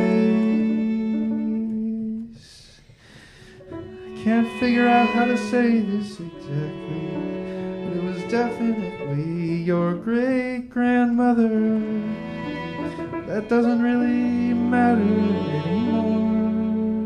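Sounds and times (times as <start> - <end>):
bowed strings: 0.0 - 2.5, 3.5 - 17.0
man singing long held notes: 0.0 - 2.8, 3.7 - 17.0.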